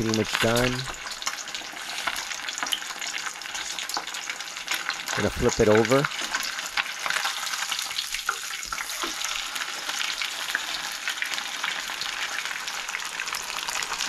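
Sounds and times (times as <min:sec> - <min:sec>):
oil crackling and spattering: 0:00.0 - 0:14.0.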